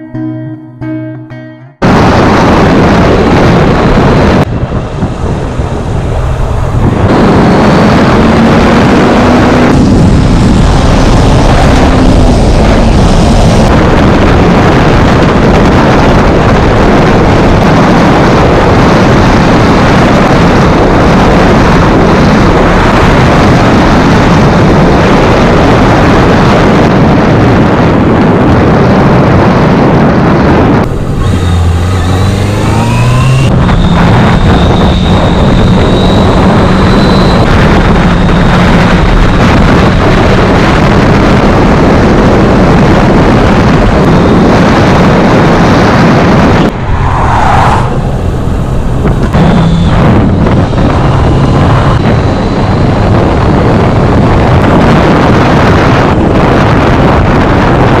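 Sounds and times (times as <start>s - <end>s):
motorcycle engine: 0.0s - 25.6s, 30.8s - 58.0s
wind rushing over microphone: 1.8s - 58.0s.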